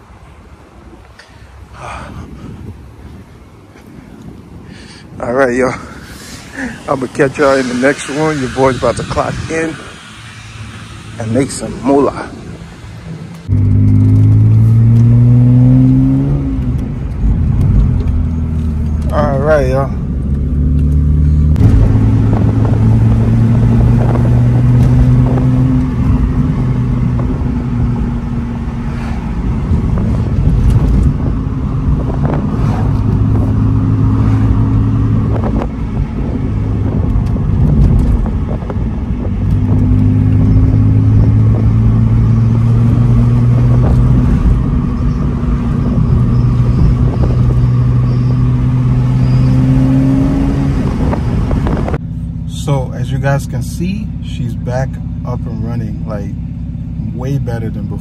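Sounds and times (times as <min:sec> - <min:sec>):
car engine droning: 0:00.0 - 0:58.0
road rumble: 0:00.0 - 0:58.0.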